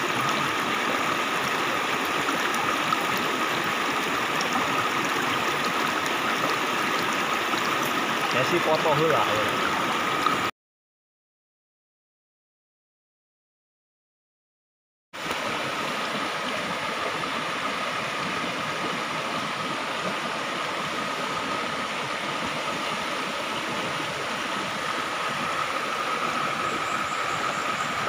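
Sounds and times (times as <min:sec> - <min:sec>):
stream flowing over stones: 0:00.0 - 0:10.5, 0:15.2 - 0:28.0.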